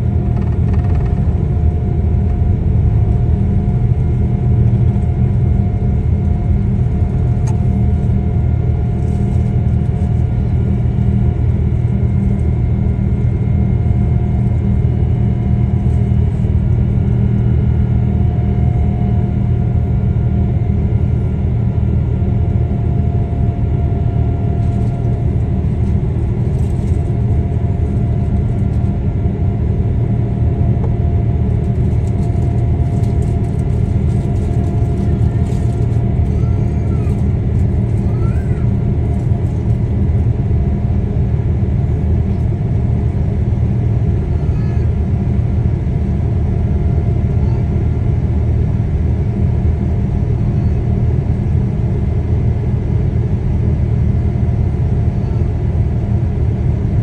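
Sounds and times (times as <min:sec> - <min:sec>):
low rumble of jet engines: 0:00.0 - 0:57.0.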